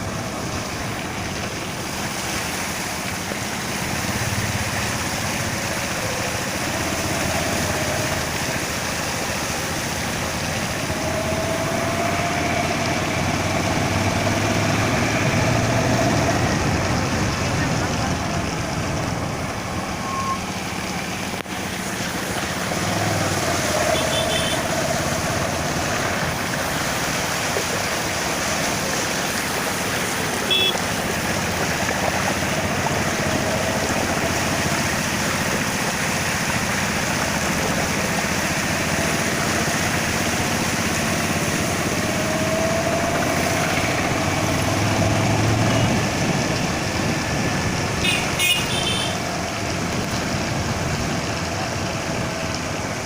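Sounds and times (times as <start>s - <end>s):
floodwater rushing: 0.0s - 53.0s
vehicle engine humming low: 0.0s - 53.0s.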